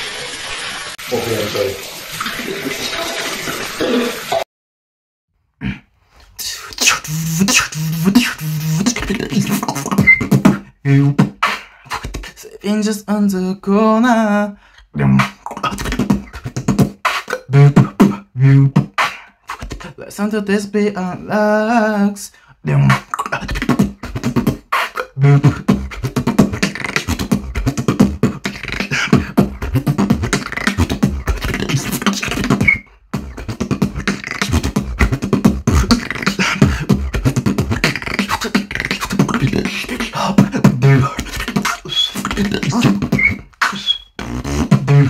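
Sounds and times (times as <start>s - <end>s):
vocal beatboxing: 5.6s - 45.0s.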